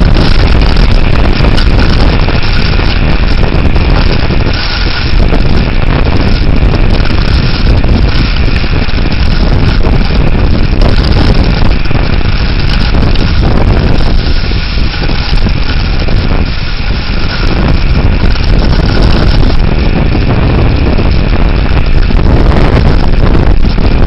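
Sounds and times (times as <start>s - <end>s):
wind gusts buffeting microphone: 0.0s - 24.0s.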